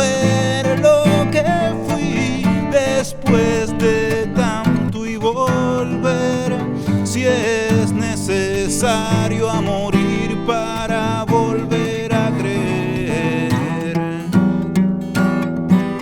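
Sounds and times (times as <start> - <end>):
acoustic guitar instrumental: 0.0 - 16.0.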